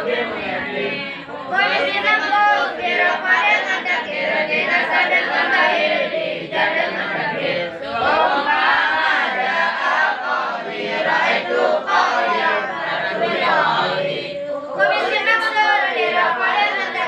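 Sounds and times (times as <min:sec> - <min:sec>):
group of men chanting: 0:00.0 - 0:17.0.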